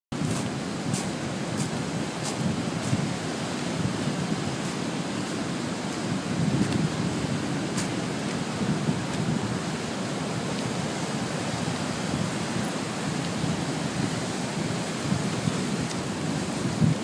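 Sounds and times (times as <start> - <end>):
wind rumbling on microphone: 0.1 - 17.0
sea surf breaking over rocks: 0.2 - 17.0.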